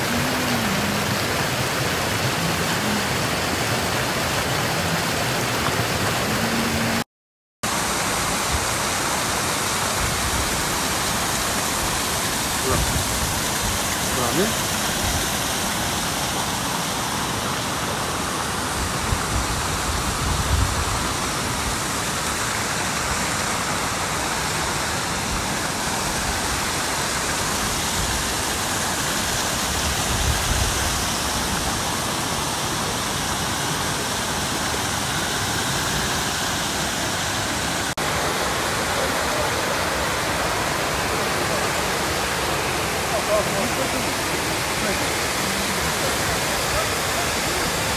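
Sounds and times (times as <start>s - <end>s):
waterfall rushing into pool: 0.0s - 7.0s, 7.6s - 47.9s.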